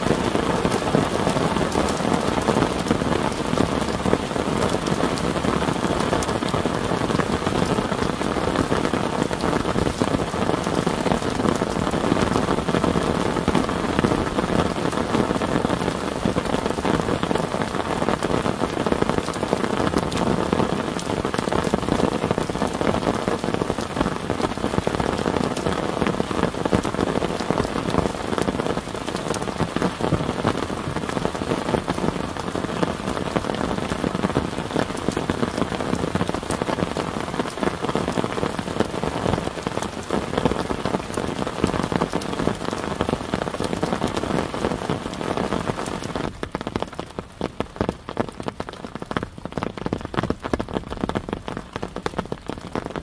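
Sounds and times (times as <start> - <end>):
heavy rain on plastic tarp: 0.0 - 53.0.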